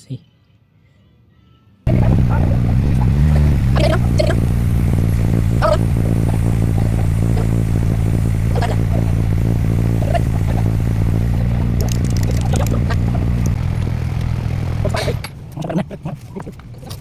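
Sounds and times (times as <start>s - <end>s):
motorcycle engine idling: 1.9s - 17.0s.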